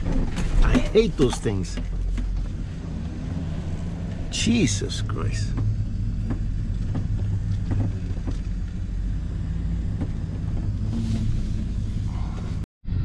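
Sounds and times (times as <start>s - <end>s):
knocks and rattles over bumps: 0.0s - 11.8s
truck engine and road drone: 0.0s - 13.0s.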